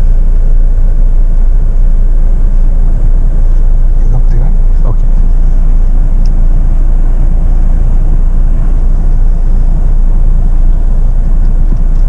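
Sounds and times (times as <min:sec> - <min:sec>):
diesel engine deep rumble: 0:00.0 - 0:12.0.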